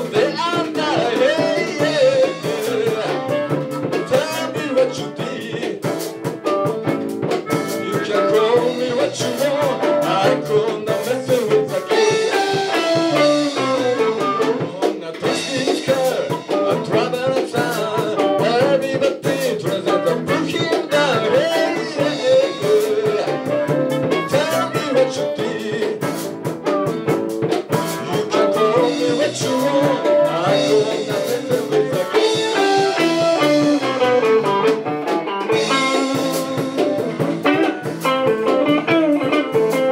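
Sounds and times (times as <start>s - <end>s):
drum beat: 0.0s - 39.9s
live rock band playing: 0.0s - 39.9s.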